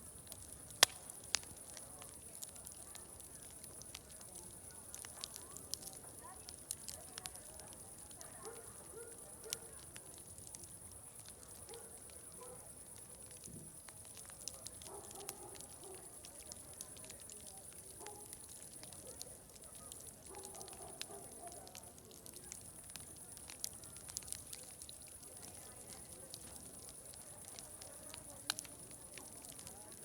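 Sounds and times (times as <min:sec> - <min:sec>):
wood fire crackling: 0:00.0 - 0:30.0
distant crowd chatter: 0:00.4 - 0:30.0.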